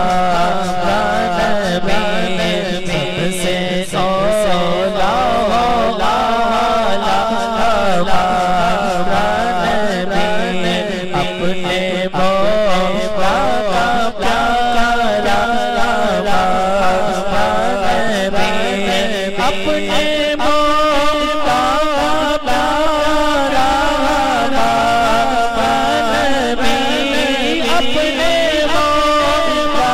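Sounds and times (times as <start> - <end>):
man singing into a microphone: 0.0 - 29.9.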